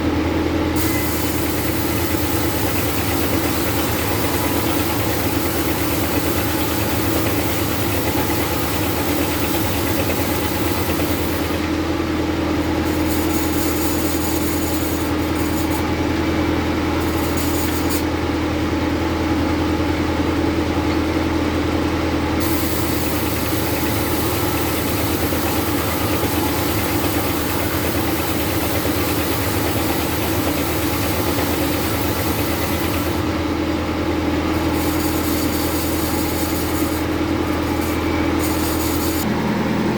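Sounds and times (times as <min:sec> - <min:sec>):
bandsaw mill cutting a log: 0:00.0 - 0:39.9.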